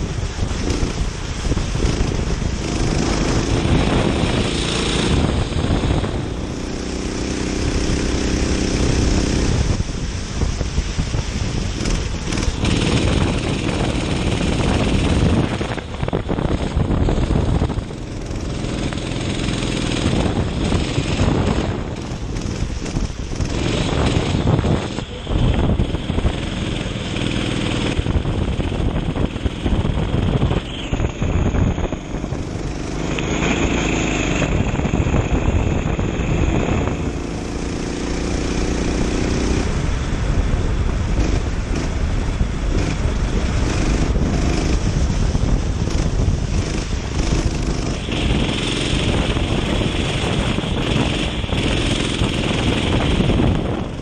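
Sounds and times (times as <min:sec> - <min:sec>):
kart engine revving: 0:00.0 - 0:09.8, 0:11.7 - 0:39.9, 0:40.7 - 0:54.0
wind noise: 0:00.0 - 0:54.0.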